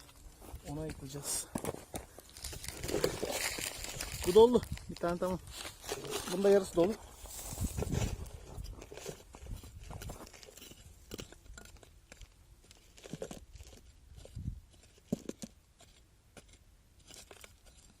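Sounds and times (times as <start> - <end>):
stony soil being dug: 0.0 - 18.0.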